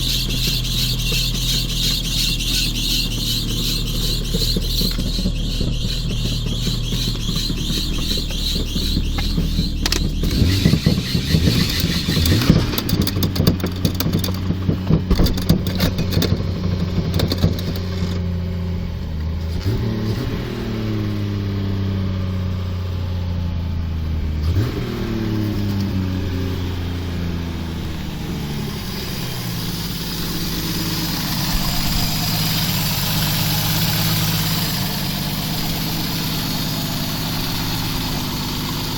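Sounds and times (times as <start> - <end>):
car engine running unevenly: 0.0 - 38.9.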